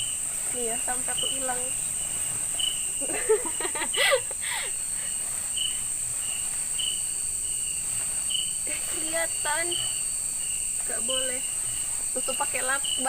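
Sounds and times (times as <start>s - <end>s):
crickets trilling: 0.0s - 13.0s
short insect chirps: 0.0s - 13.0s.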